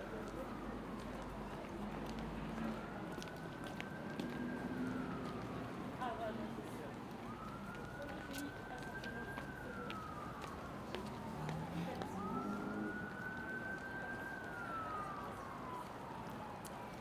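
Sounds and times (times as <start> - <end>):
emergency vehicle siren wailing: 0.0 - 6.0, 6.6 - 17.0.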